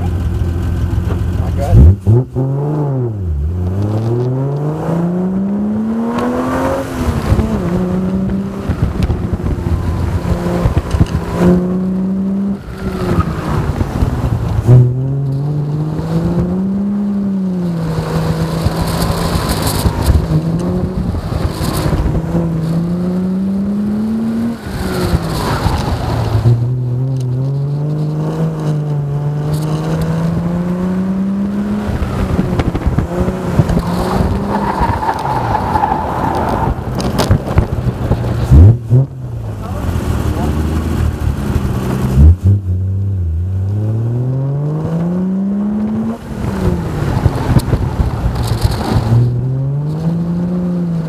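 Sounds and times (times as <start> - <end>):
car engine accelerating: 0.0 - 51.0.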